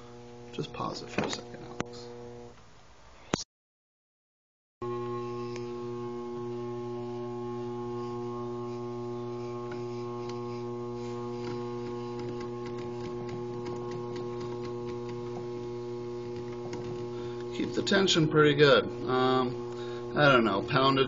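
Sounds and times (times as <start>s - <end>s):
lathe electric hum: 0.0s - 2.6s, 4.8s - 21.0s.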